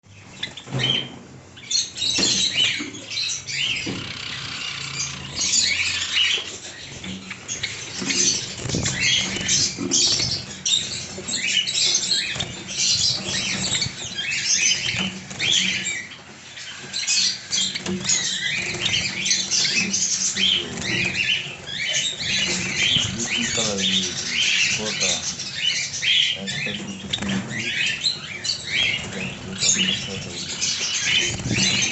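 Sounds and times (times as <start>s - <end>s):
sparrows chirping and squeaking: 0.1s - 31.9s.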